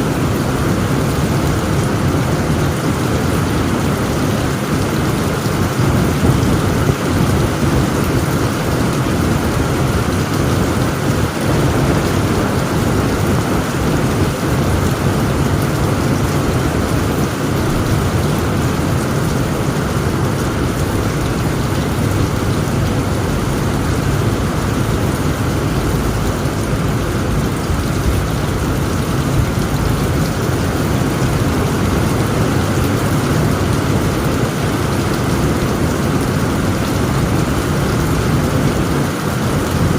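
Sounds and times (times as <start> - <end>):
heavy rain on a tent roof: 0.0 - 39.9.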